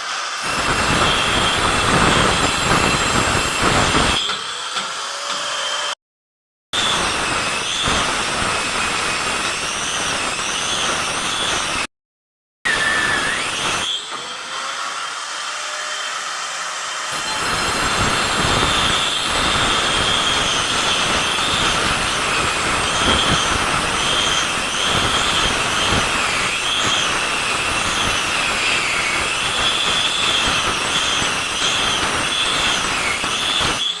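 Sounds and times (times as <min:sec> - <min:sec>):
power cutter cutting masonry: 0:00.0 - 0:06.0, 0:06.8 - 0:11.9, 0:12.7 - 0:34.0.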